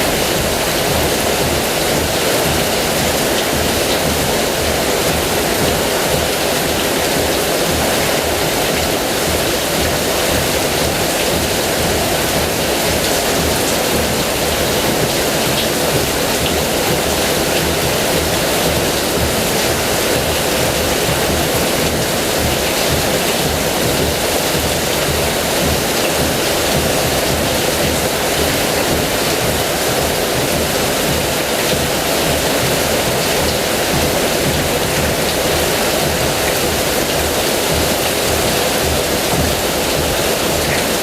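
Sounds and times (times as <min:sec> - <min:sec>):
heavy rain: 0:00.0 - 0:41.0.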